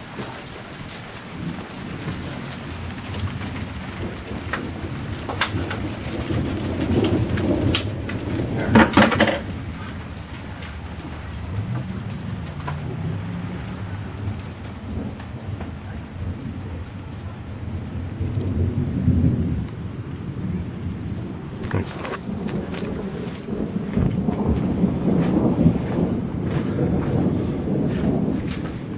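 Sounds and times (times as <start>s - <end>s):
steady rain: 0.0s - 28.9s
thunder rumbling: 0.0s - 28.9s.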